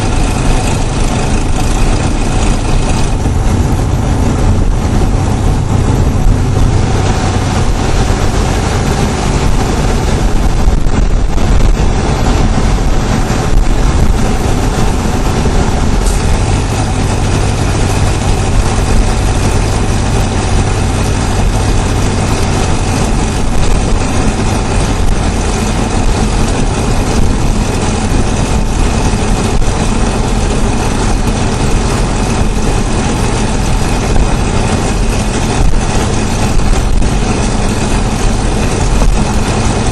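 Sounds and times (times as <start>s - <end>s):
car engine running with chatter: 0.0s - 39.9s.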